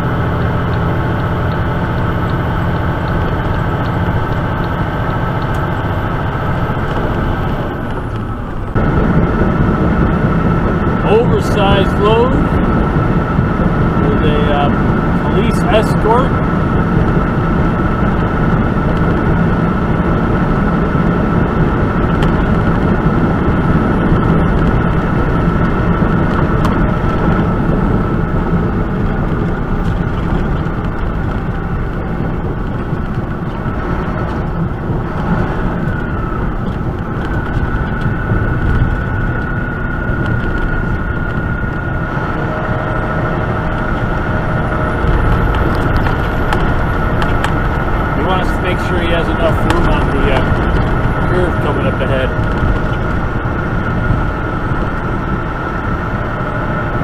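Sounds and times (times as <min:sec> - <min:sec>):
road noise: 0:00.0 - 0:57.0
truck engine drone: 0:00.0 - 0:57.0.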